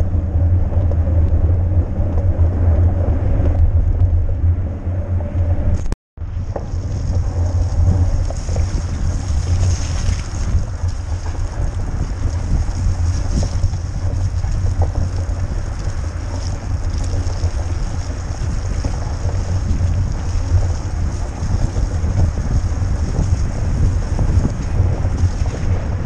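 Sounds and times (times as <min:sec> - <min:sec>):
bike rolling over rough ground: 0:00.0 - 0:26.0
wind buffeting microphone: 0:00.0 - 0:26.0.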